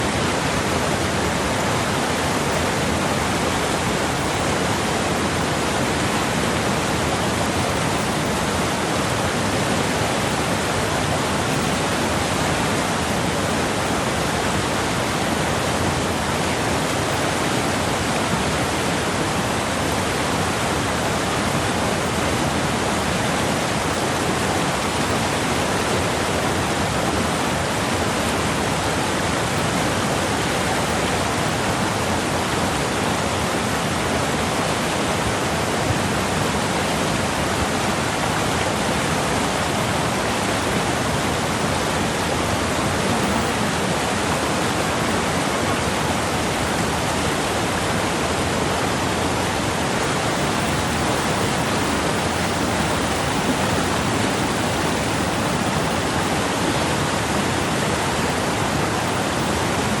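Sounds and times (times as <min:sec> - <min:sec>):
steady rushing noise: 0:00.0 - 1:00.0.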